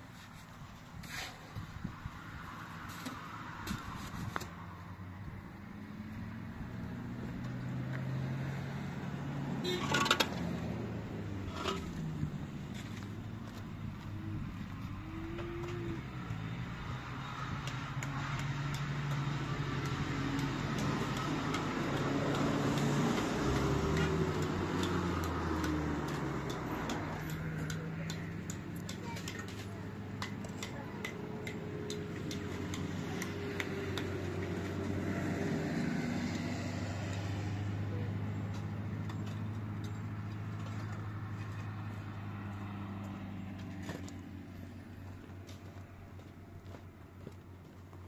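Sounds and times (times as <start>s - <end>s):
vehicle engine running: 5.2s - 48.0s.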